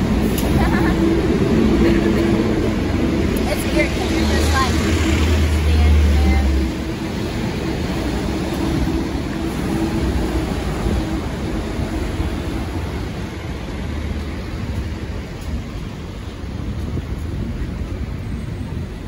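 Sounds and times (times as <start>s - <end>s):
cars driving past on wet road: 0.0s - 17.2s.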